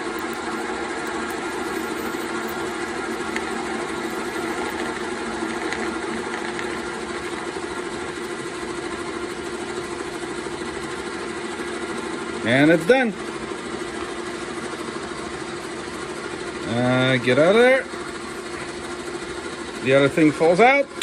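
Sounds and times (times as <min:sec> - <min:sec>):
metal lathe humming: 0:00.0 - 0:20.8.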